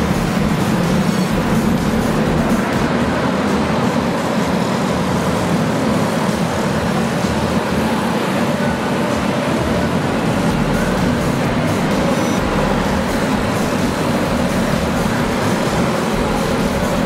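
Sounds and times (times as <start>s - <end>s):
go-kart engines racing: 0.0s - 17.0s.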